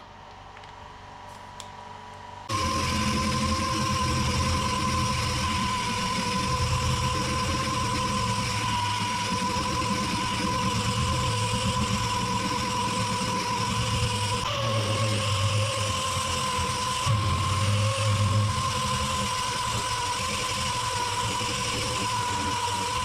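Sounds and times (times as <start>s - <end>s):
motor tool whining: 2.5s - 23.0s.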